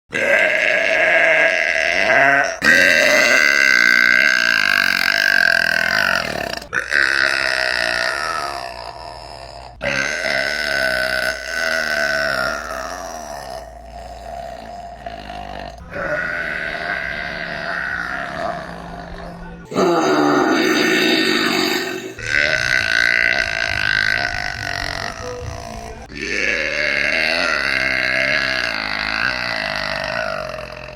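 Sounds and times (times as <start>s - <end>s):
woman burping: 0.2s - 30.9s.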